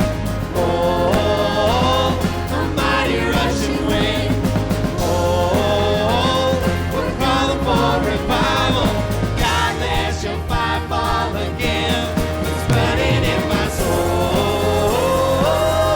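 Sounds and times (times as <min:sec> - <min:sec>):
person singing: 0:00.0 - 0:15.9
worship band music: 0:00.0 - 0:15.9.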